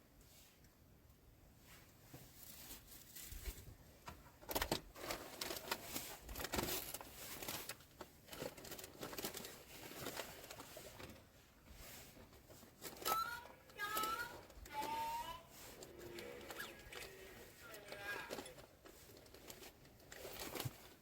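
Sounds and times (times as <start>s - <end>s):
rustling and crinkling: 1.5s - 21.0s.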